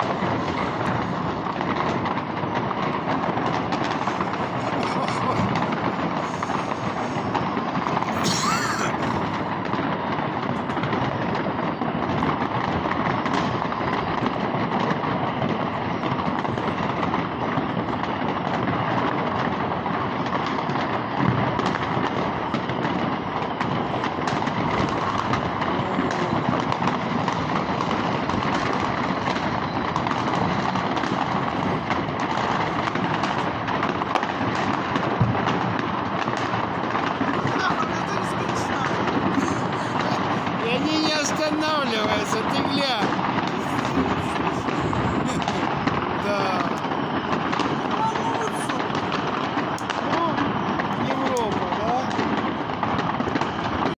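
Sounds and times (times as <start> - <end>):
fireworks crackling and banging: 0.0 - 53.9.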